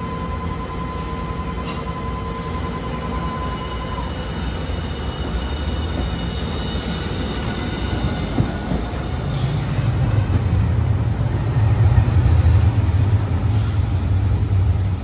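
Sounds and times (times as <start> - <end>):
electric tram whine: 0.0 - 15.0
tram running rumble: 0.0 - 15.0.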